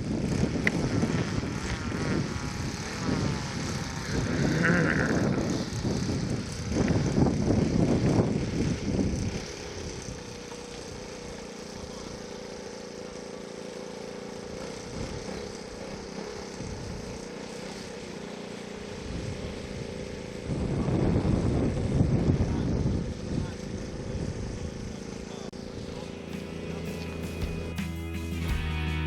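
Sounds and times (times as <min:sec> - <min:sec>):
model airplane engine droning: 0:00.0 - 0:28.6.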